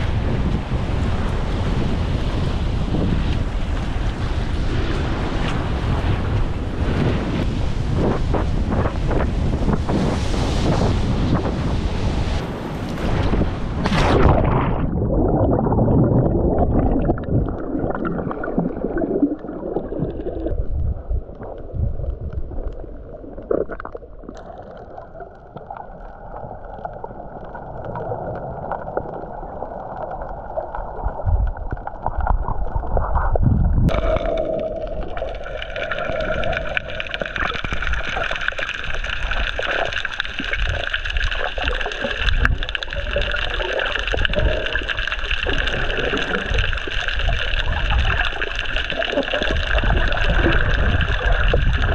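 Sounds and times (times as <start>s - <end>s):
muffled underwater bubbles: 0.0s - 51.9s
water splash: 2.9s - 20.8s, 27.8s - 51.9s.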